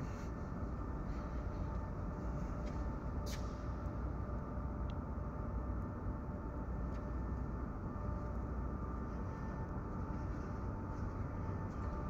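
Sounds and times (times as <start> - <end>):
faint steady hum: 0.0 - 12.0
low machinery rumble: 0.0 - 12.0.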